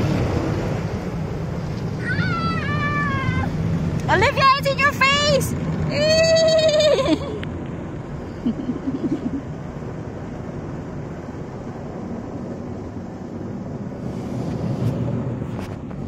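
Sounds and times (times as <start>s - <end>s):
car wash brushes and water rushing: 0.0s - 16.0s.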